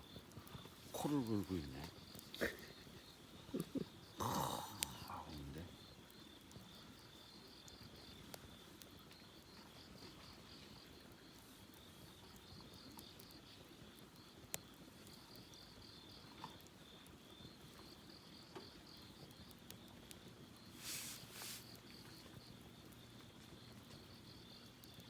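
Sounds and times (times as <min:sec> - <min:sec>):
faint crickets chirping: 0:00.0 - 0:25.0.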